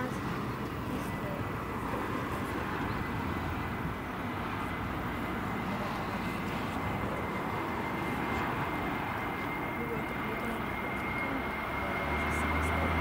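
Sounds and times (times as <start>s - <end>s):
jet engines on takeoff roll: 0.0s - 13.0s.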